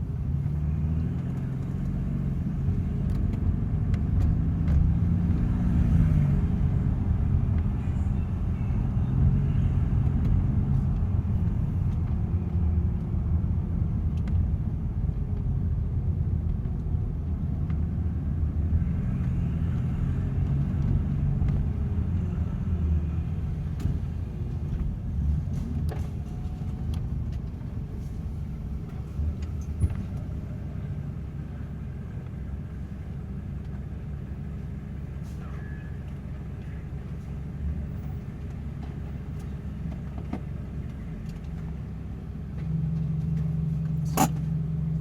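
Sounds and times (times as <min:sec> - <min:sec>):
car engine rumble: 0:00.0 - 0:45.0.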